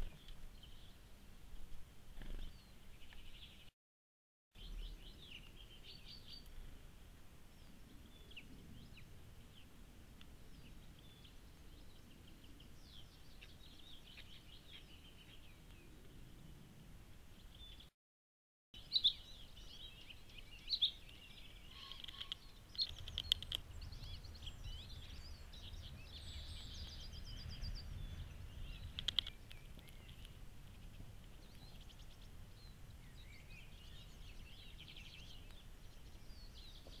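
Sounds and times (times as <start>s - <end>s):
songbirds chirping and trilling: 0.0s - 3.7s, 4.6s - 17.9s, 18.8s - 37.0s.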